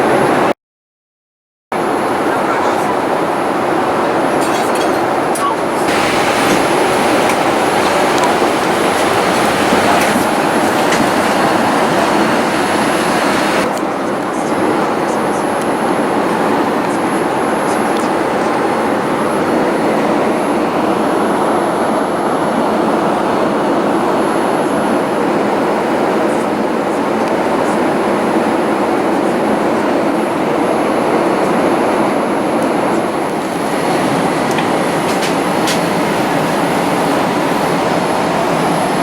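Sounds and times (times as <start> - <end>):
jet engines and airflow: 0.0 - 0.5, 1.8 - 39.0.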